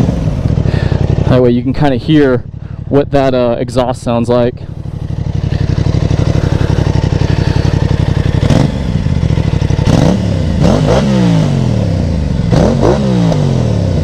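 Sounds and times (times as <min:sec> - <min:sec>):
motorcycle engine idling: 0:00.0 - 0:14.0
motorcycle throttle blips: 0:00.0 - 0:14.0.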